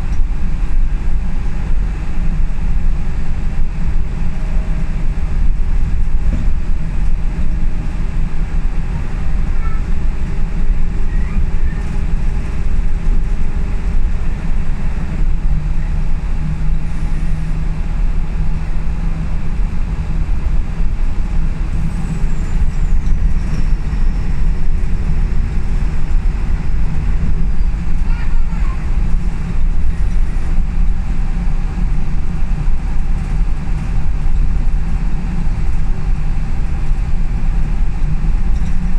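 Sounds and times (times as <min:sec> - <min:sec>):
bus diesel engine drone: 0:00.0 - 0:38.9
road noise: 0:00.0 - 0:38.9.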